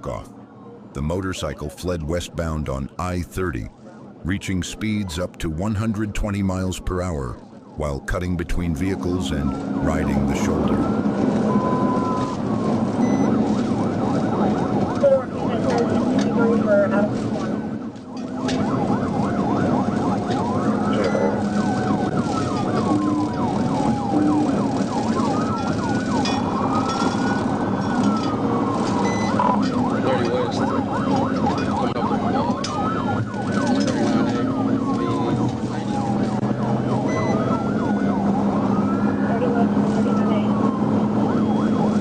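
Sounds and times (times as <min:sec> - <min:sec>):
car engine and road noise: 0:00.0 - 0:42.0
police siren wailing and yelping: 0:07.0 - 0:42.0.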